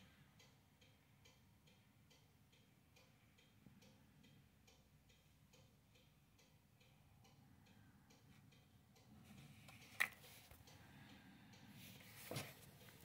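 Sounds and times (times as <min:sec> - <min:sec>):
faint regular ticking: 0:00.0 - 0:13.0.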